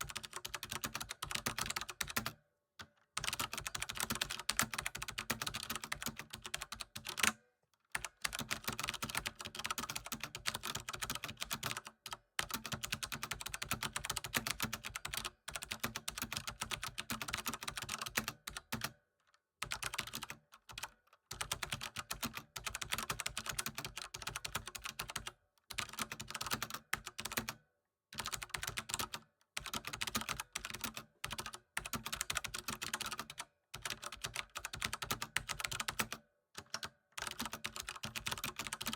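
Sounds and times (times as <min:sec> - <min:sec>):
fast typing on keyboard: 0:00.0 - 0:02.4, 0:03.2 - 0:07.4, 0:08.0 - 0:19.0, 0:19.6 - 0:27.6, 0:28.2 - 0:38.9.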